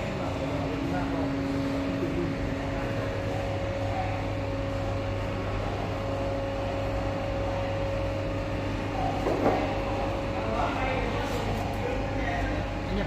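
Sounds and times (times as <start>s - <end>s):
bending machine electric hum: 0.0s - 13.0s.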